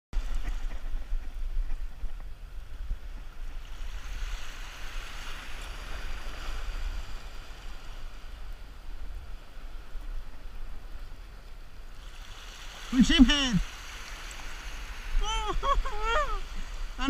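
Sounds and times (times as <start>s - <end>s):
wind rumble on microphone: 0.1s - 13.0s, 13.9s - 17.0s
water splashing along boat hull: 0.2s - 8.4s, 10.3s - 17.0s.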